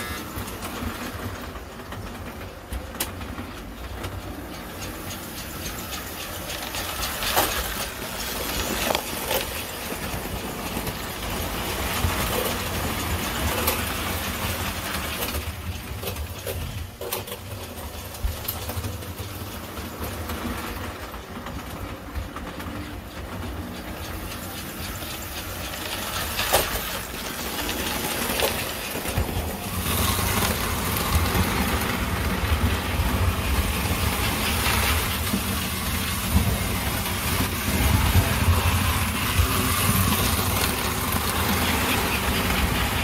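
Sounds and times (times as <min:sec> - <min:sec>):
model train motor hum: 0:00.0 - 0:43.0
model train wheels on track: 0:00.0 - 0:43.0.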